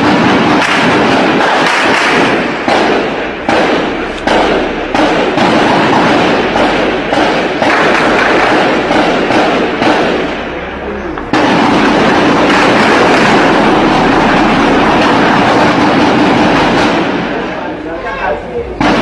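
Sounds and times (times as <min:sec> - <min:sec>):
gunfire bursts: 0:00.0 - 0:17.8, 0:18.8 - 0:19.0.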